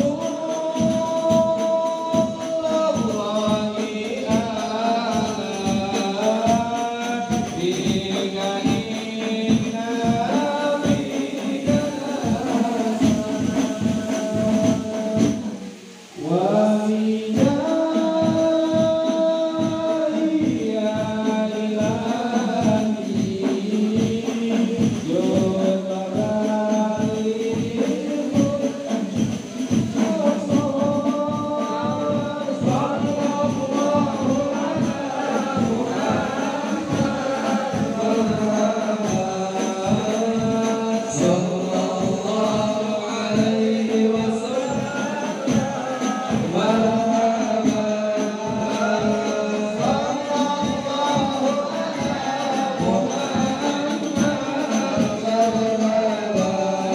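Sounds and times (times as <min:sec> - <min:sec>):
hand drum beat: 0:00.0 - 0:56.9
men singing in chorus: 0:00.0 - 0:56.9.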